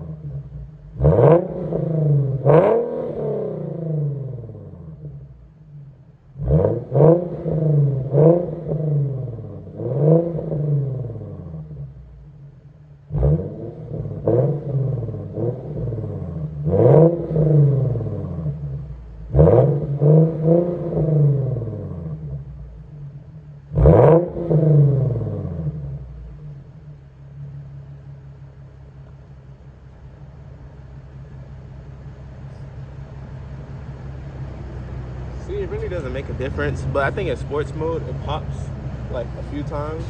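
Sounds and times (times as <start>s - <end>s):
car engine revving from idle: 0.0s - 40.0s.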